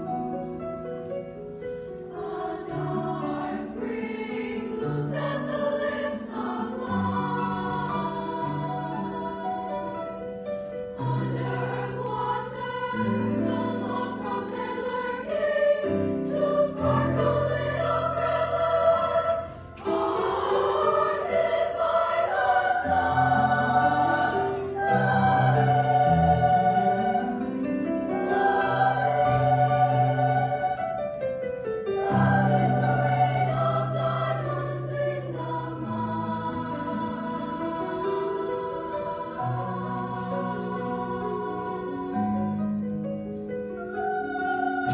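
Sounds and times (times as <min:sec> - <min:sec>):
piano accompaniment: 0:00.0 - 0:44.9
women's choir singing: 0:01.8 - 0:43.0, 0:43.6 - 0:44.9.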